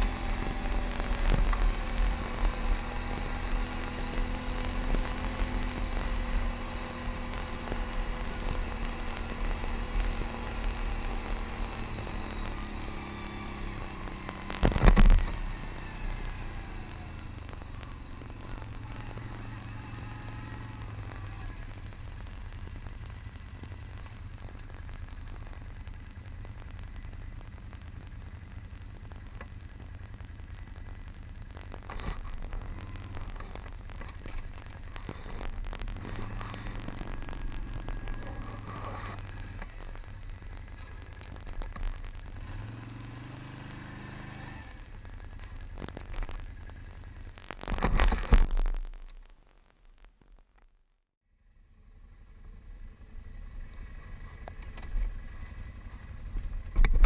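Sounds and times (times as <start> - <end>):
tyres rolling on gravel: 0.0 - 48.5
atv engine running: 0.0 - 49.0, 51.4 - 57.0.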